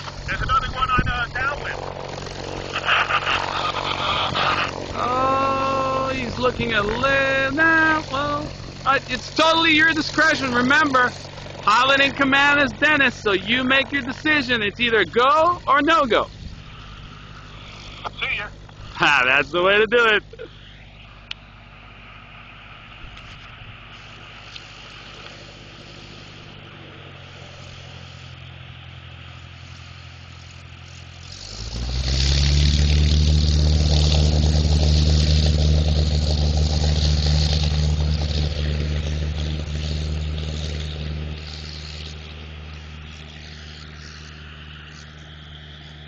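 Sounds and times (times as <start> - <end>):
light aircraft engine: 0.0 - 46.0.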